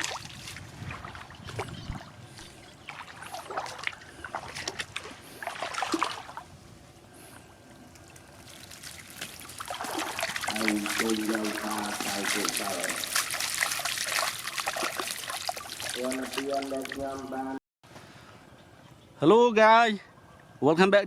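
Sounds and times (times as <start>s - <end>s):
water splashing and trickling: 0.0s - 6.6s, 7.2s - 17.6s.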